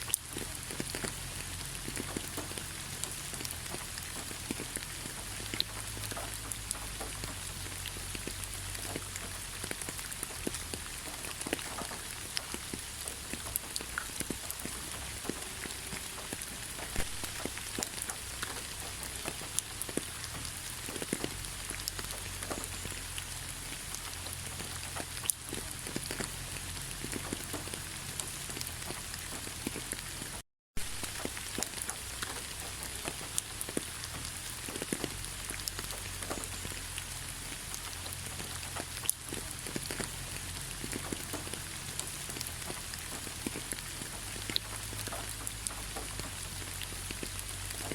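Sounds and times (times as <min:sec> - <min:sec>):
rain falling: 0:00.0 - 0:47.9
raindrops ticking: 0:00.0 - 0:47.9.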